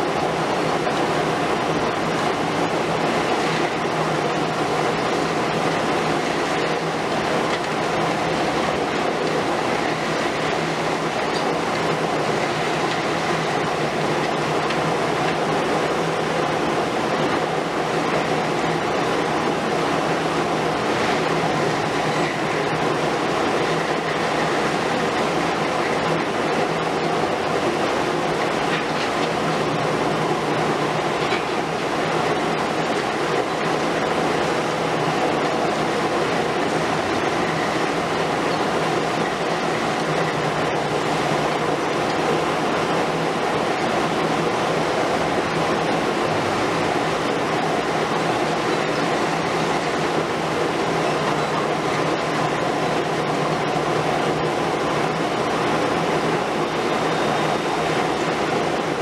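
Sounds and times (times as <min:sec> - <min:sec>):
excavator engine and hydraulics: 0:00.0 - 0:59.0
second excavator running: 0:00.0 - 0:59.0.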